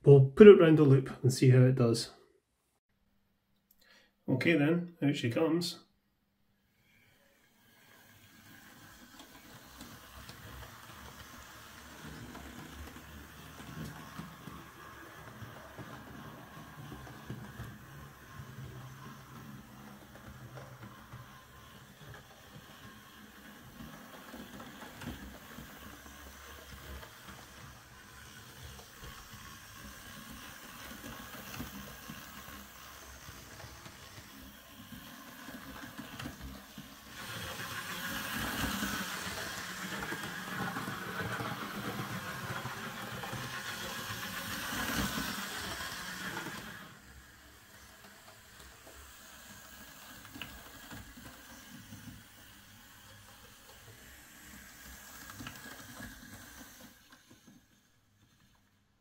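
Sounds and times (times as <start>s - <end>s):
small electric motor whirring: 6.7s - 58.7s
model train wheels rattling: 6.8s - 58.7s.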